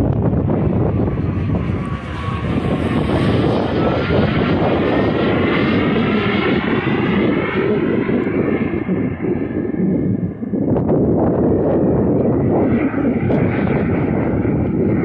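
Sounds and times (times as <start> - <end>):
model jet engine whining: 0.0 - 15.0.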